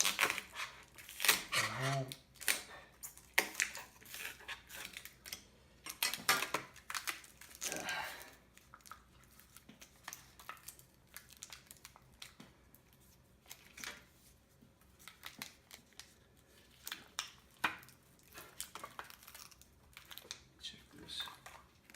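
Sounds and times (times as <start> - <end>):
adhesive tearing and crinkling: 0.0 - 20.6.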